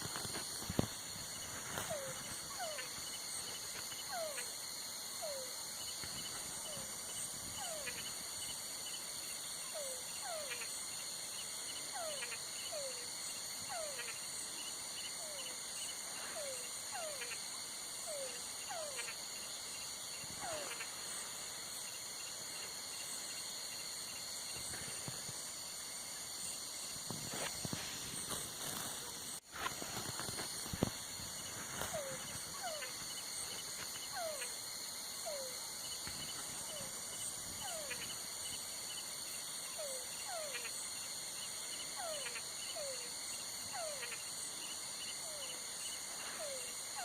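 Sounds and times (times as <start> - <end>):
crickets chirring: 0.0 - 47.0.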